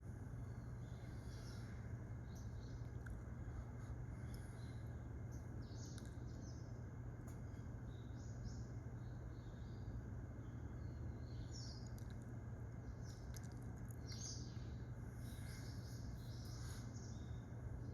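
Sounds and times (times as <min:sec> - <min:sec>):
low background hum: 0:00.0 - 0:17.9.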